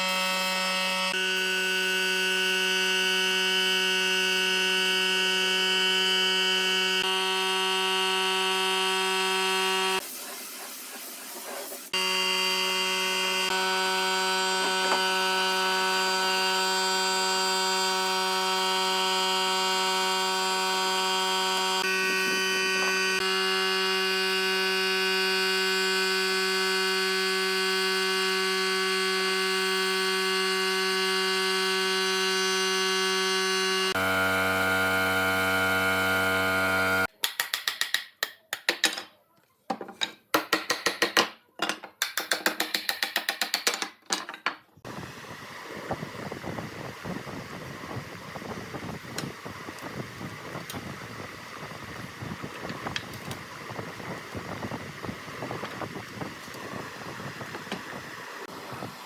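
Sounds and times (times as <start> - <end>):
power tool motor running: 0.0 - 10.0, 11.9 - 37.1, 44.8 - 59.0.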